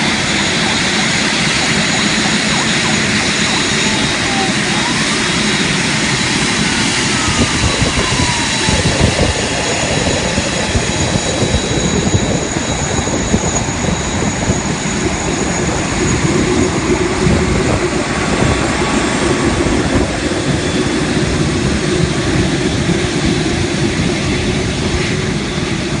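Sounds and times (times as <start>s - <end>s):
jet roar with turbine whine: 0.0s - 26.0s.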